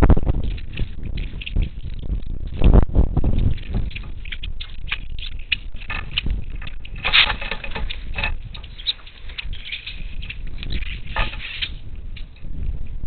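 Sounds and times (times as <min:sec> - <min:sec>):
wind rumble on microphone: 0:00.0 - 0:13.0
parakeets clicking and chattering: 0:00.3 - 0:12.5.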